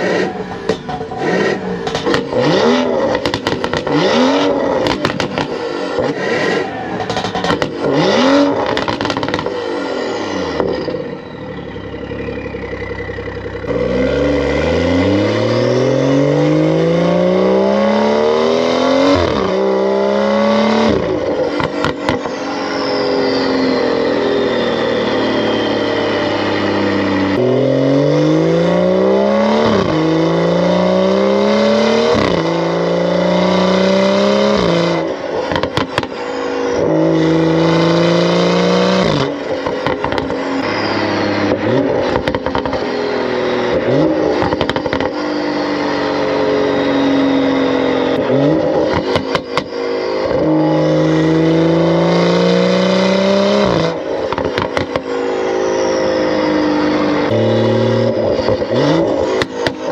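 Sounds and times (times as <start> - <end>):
exhaust crackling: 0.0 - 31.1, 34.5 - 45.4, 46.2 - 59.9
car engine accelerating hard: 0.0 - 59.9.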